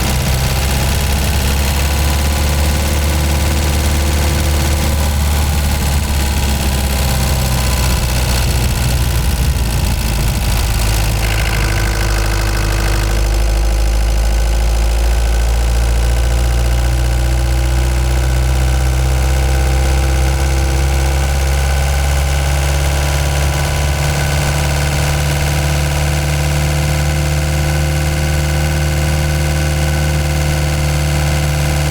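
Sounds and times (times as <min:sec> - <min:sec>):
van engine running at low revs: 0:00.0 - 0:31.9.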